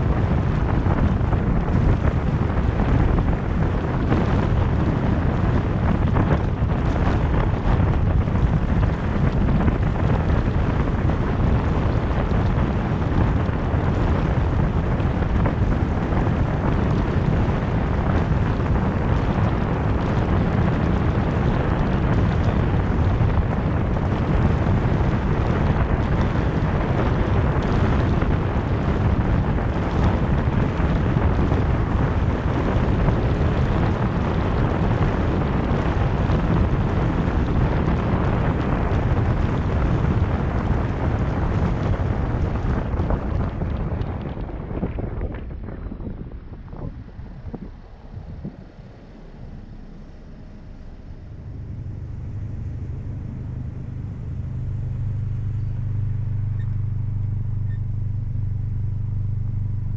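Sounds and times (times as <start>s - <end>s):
car road and tyre noise: 0.0s - 59.9s
wind buffeting microphone: 0.0s - 59.9s.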